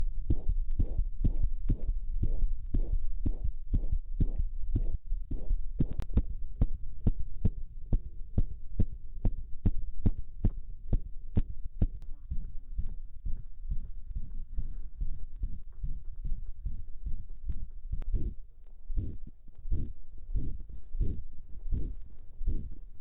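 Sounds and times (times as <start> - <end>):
low rumble: 0.0 - 23.0
rapid heartbeat thumps: 0.0 - 23.0.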